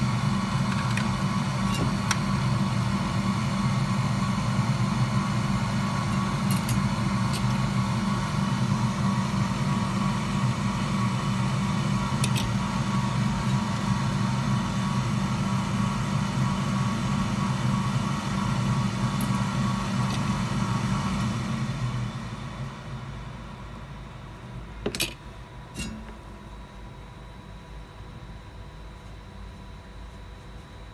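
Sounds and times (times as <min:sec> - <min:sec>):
mechanical hum of fan or motor: 0:00.0 - 0:30.9.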